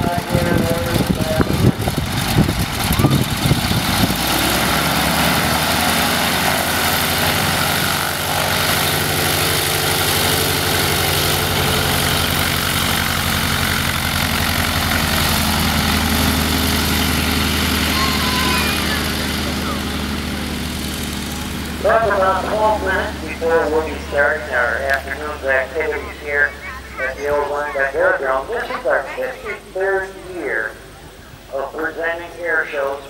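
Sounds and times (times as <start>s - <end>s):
biplane radial engine running: 0.0s - 33.0s.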